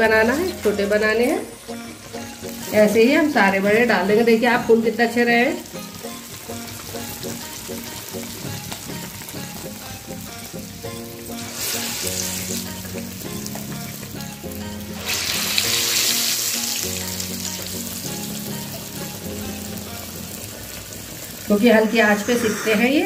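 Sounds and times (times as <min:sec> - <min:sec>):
faint background music: 0:00.0 - 0:23.0
food deep-frying in hot oil: 0:00.0 - 0:23.0.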